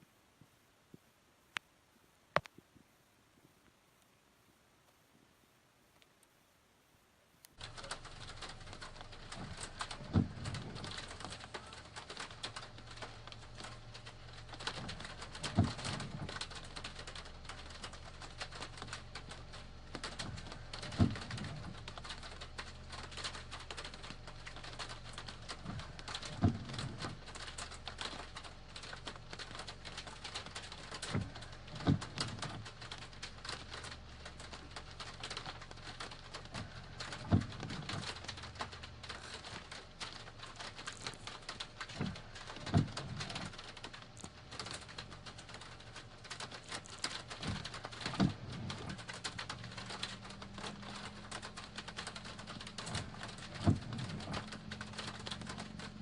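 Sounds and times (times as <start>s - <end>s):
rain falling steadily: 0.0s - 56.0s.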